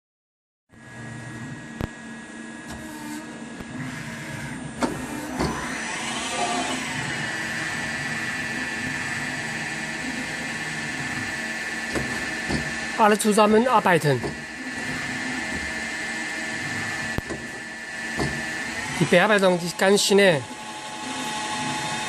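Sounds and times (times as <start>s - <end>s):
lathe machine hum: 0.8s - 22.0s
spindle whine rising: 0.8s - 22.0s.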